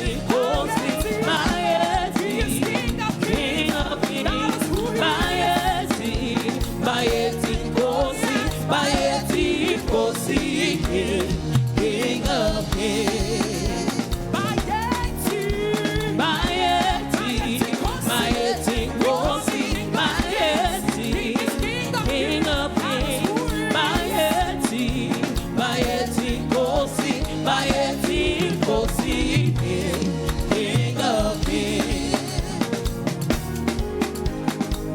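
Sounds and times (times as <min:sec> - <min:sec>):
church band playing: 0:00.0 - 0:34.9
gospel singing: 0:00.0 - 0:34.9.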